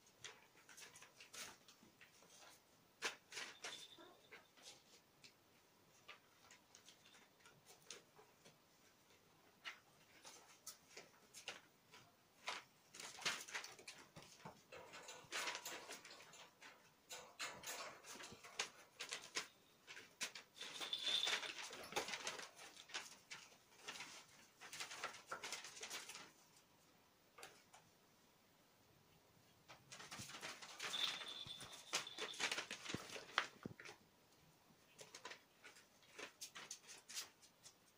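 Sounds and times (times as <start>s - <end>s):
kittens scratching and rustling: 0.0s - 28.1s, 29.4s - 37.9s.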